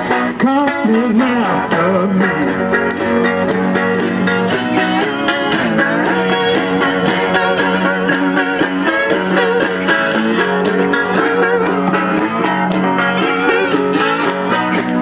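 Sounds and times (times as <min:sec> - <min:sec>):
electric guitar plucked notes: 0:00.0 - 0:15.0.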